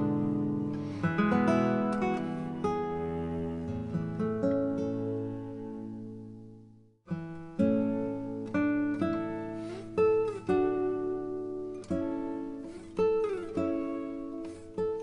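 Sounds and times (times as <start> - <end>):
plucked and strummed guitar: 0.0 - 15.0.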